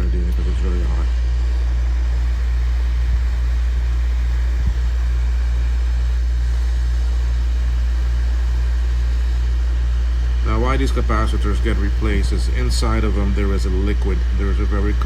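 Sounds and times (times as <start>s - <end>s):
hot air blower humming: 0.0s - 15.0s.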